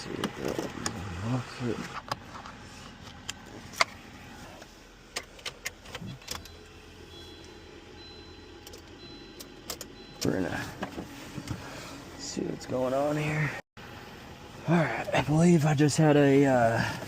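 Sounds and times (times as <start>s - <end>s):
faint steady hum: 2.3s - 17.0s.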